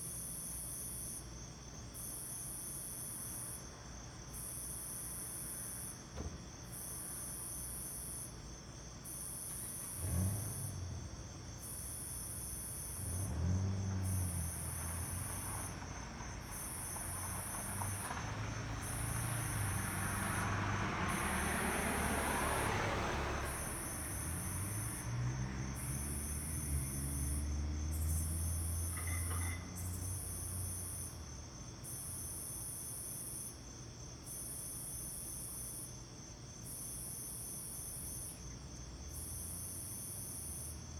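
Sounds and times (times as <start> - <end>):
insects trilling: 0.2 - 40.9.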